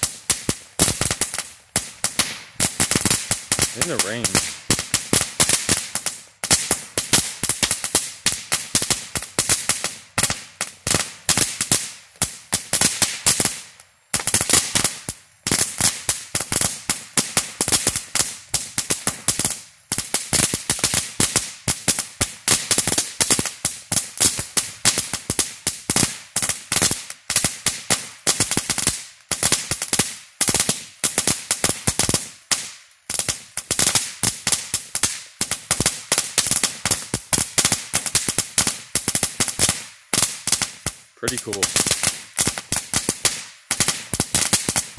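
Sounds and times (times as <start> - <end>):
firework cracks and bangs: 0.0 - 44.9.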